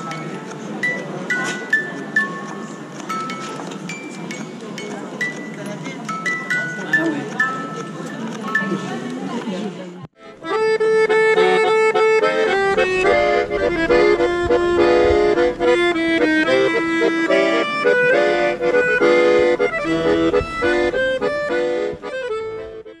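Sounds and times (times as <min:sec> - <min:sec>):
piano accordion melody: 0:00.0 - 0:09.2, 0:10.2 - 0:23.0.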